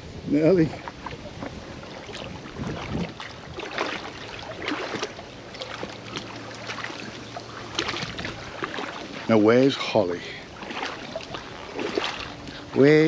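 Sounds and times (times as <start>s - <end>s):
footsteps wading through water: 0.6s - 13.0s.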